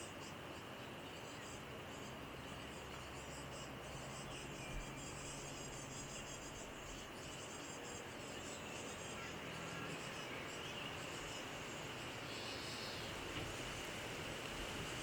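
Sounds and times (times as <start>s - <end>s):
background hiss: 0.0s - 15.0s
insects stridulating: 0.0s - 15.0s.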